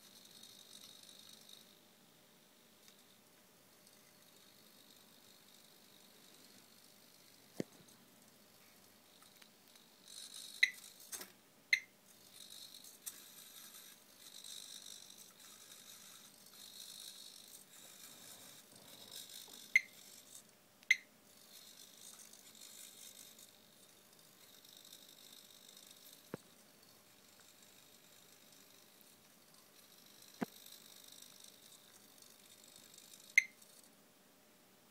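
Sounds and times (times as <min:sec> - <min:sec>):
small servo motors whirring: 0:00.0 - 0:01.8, 0:02.8 - 0:11.3, 0:12.1 - 0:33.9.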